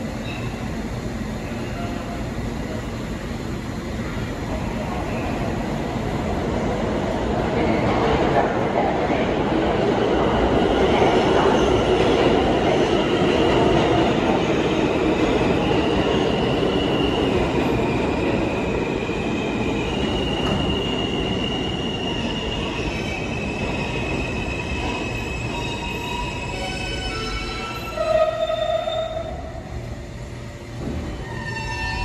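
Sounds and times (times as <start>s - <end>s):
subway train wheels rumbling: 0.0s - 32.0s.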